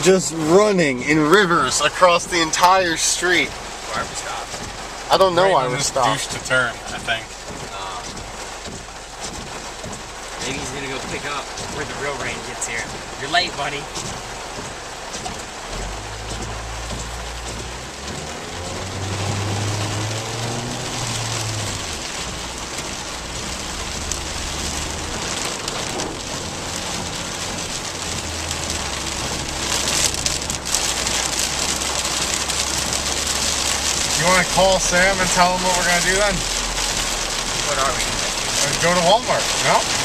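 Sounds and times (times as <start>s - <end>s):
car engine idling: 0.0s - 40.0s
heavy rain on car roof: 0.0s - 40.0s.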